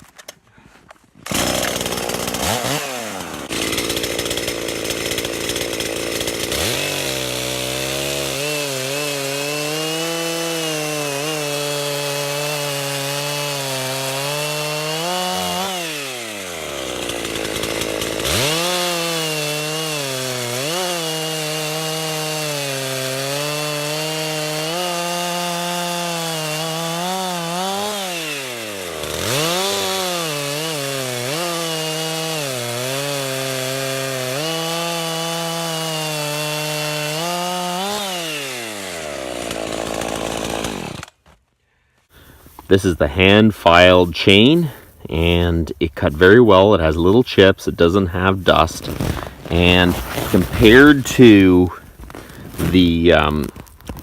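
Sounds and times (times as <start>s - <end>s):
chainsaw cutting a log: 1.2s - 41.4s, 42.5s - 54.0s.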